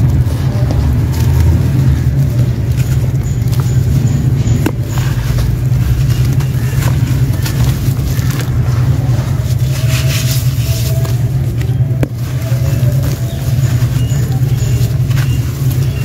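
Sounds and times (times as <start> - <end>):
dry chunks crushed by hand: 0.0 - 16.0
low rumble: 0.0 - 16.0.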